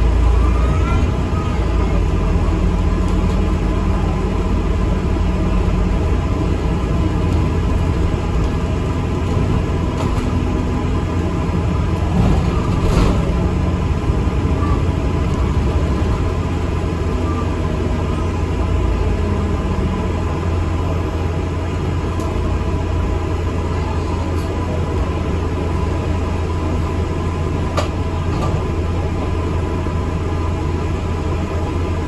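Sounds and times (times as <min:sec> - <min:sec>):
bus engine and road rumble: 0:00.0 - 0:32.0
rattle inside bus: 0:00.0 - 0:32.0.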